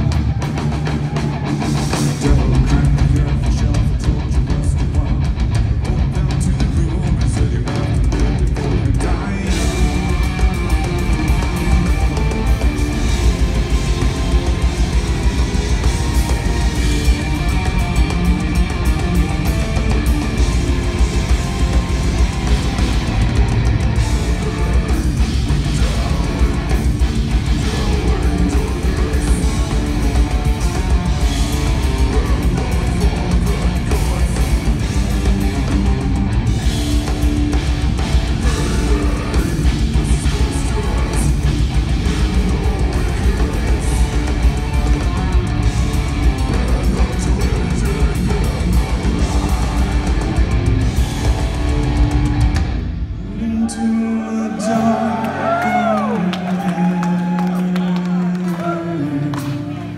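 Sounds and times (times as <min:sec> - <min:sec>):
drum kit: 0:00.0 - 0:53.8
bass guitar: 0:00.0 - 0:59.9
distorted electric guitars: 0:00.0 - 0:59.9.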